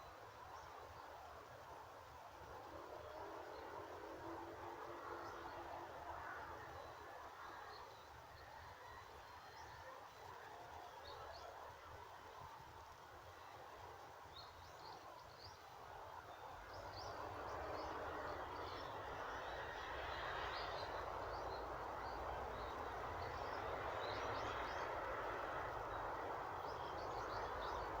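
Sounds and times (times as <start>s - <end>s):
wind rustling leaves in trees: 0.0s - 28.0s.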